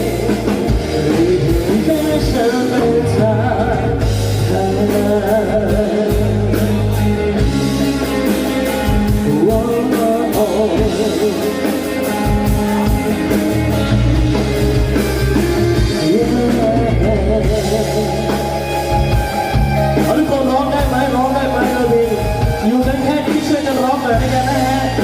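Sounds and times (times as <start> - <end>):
live pop-rock band playing: 0.0 - 25.0.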